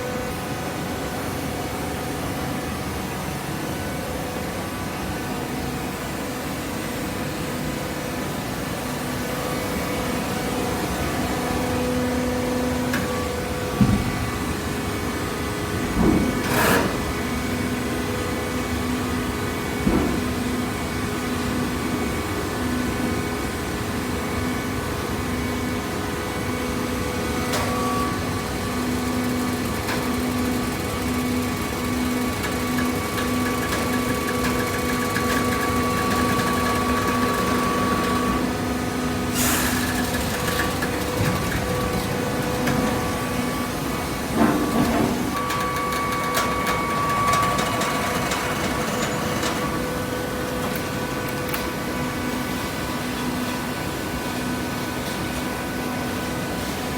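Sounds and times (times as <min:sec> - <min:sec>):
hydraulic baler humming: 0:08.1 - 0:54.2.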